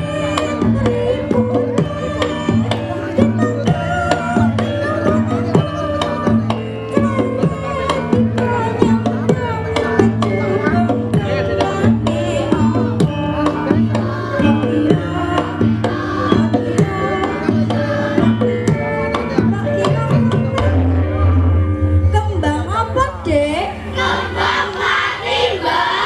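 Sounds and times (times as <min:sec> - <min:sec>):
ringing metallophone notes: 0:00.0 - 0:24.6.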